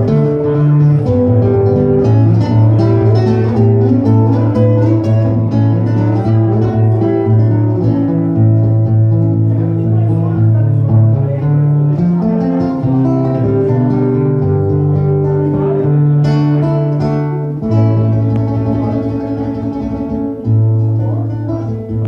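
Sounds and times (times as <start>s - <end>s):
classical guitar fingerstyle: 0.0s - 22.0s.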